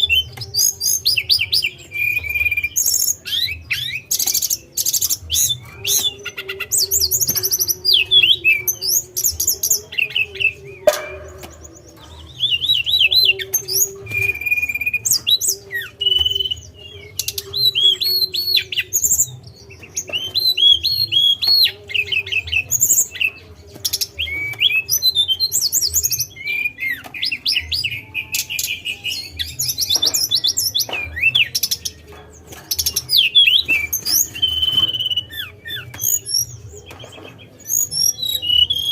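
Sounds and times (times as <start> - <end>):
small bird singing: 0.0 - 38.9.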